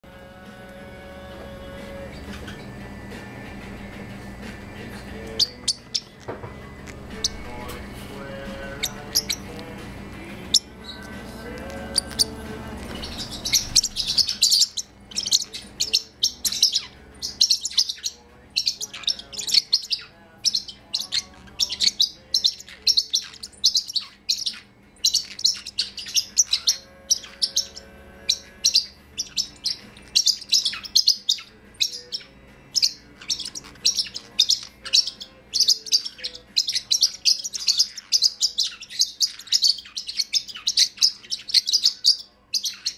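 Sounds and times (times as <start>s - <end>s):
parrotlets chirping: 0.0s - 42.9s.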